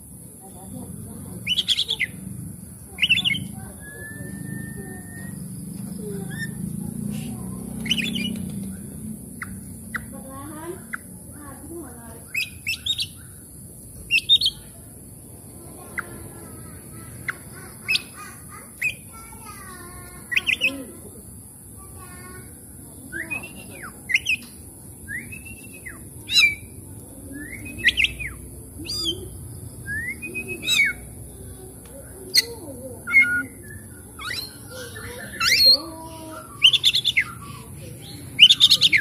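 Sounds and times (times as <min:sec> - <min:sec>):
magpie-robin singing: 0:01.2 - 0:11.4, 0:12.1 - 0:14.8, 0:15.8 - 0:21.0, 0:22.0 - 0:39.0.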